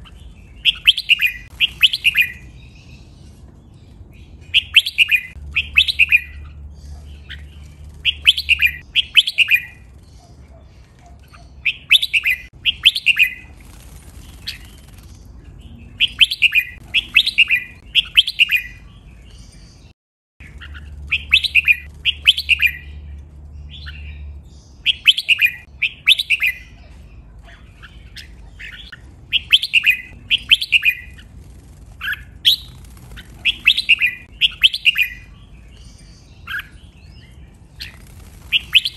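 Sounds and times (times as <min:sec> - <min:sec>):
bird singing bright phrases: 0:00.0 - 0:38.9.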